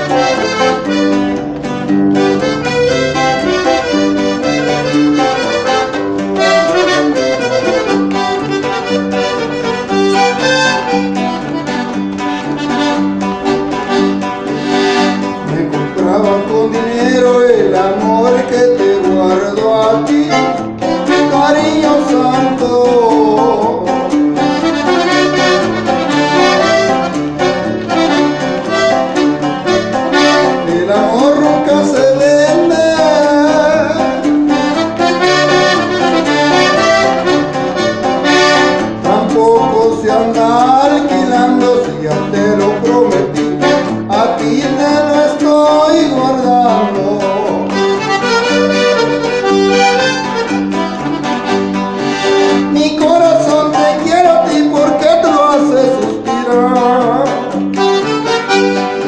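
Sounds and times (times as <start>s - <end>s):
accordion melody: 0.0s - 59.0s
strummed guitar rhythm: 0.0s - 59.0s.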